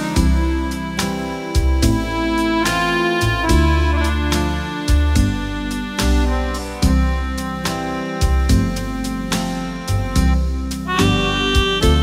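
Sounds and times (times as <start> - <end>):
deep bass line: 0.0 - 12.0.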